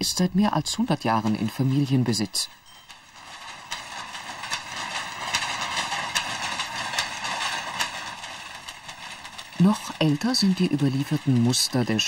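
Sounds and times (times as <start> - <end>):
weaving looms clattering: 0.0 - 12.0.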